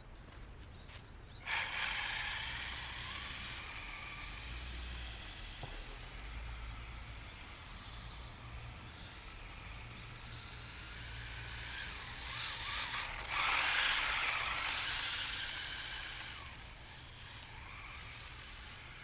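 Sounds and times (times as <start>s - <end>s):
small electric motor whine: 0.9s - 19.0s.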